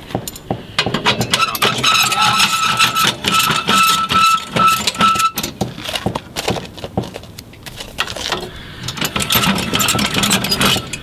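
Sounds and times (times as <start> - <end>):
jack clicking and knocking: 0.0 - 6.3, 8.0 - 11.0.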